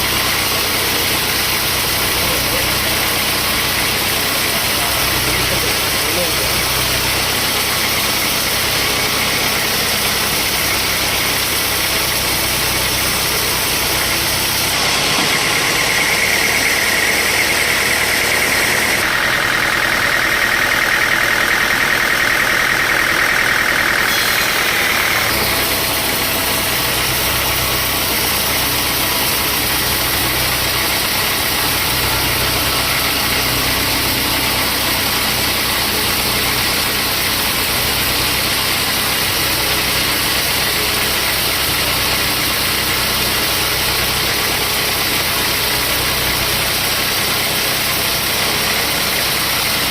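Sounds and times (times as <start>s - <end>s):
saw blade cutting wood: 0.0s - 19.8s, 21.4s - 49.9s
sawmill saw running: 0.0s - 49.9s.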